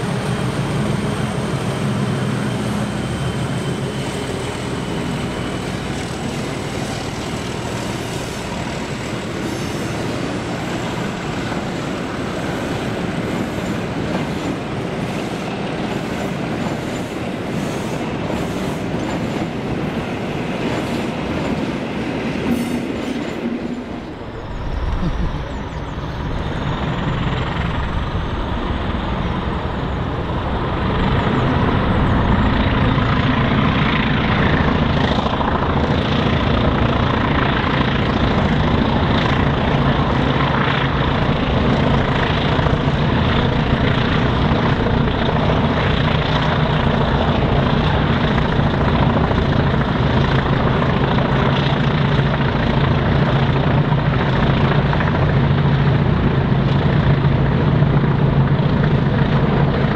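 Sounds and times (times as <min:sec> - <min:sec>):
diesel locomotive engine working: 0:00.0 - 0:59.9.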